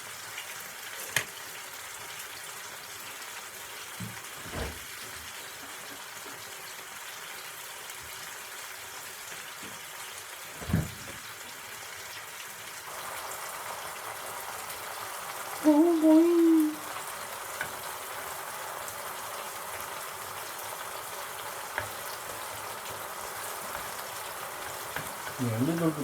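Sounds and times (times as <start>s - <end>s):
tomatoes sizzling in a frying pan: 0.0s - 26.0s.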